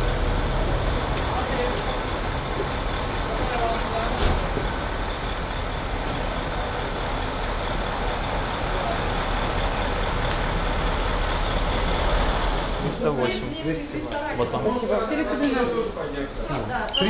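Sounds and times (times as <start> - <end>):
bus engine idling: 0.0 - 16.7.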